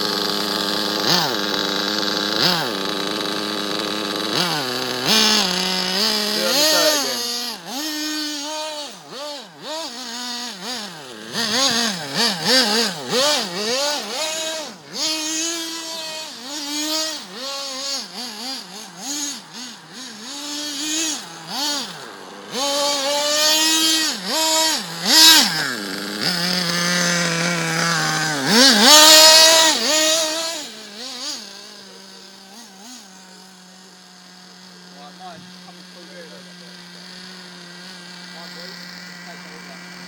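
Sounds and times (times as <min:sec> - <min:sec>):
rc car nitro engine revving: 0:00.0 - 0:40.0.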